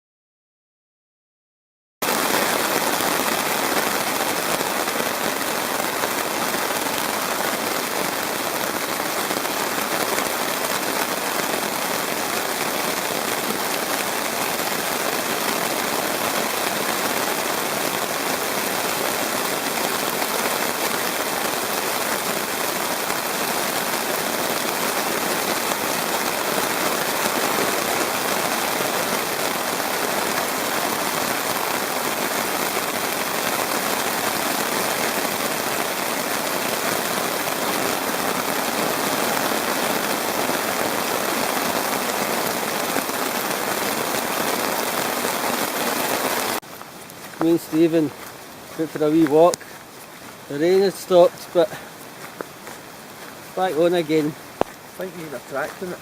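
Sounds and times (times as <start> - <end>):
torrential rain: 2.0 - 56.0.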